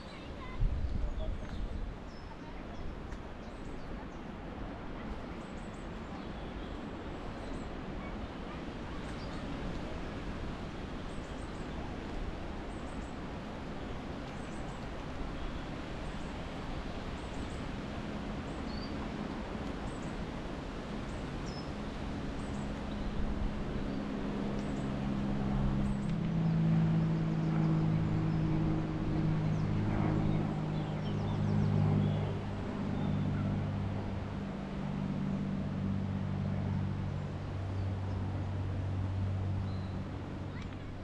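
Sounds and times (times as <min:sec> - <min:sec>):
wind: 0:00.0 - 0:41.0.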